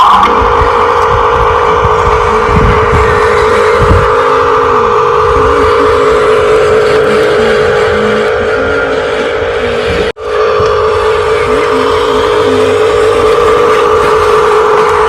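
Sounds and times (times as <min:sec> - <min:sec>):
rc vehicle motors whining: 0:00.0 - 0:15.0.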